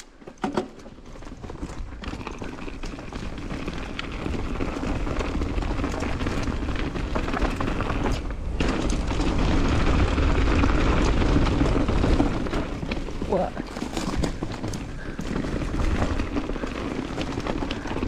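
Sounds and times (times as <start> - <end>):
bike clicks and rattles: 0.0 - 18.0
tyre noise on dirt: 0.0 - 18.0
wind buffeting microphone: 1.4 - 18.0.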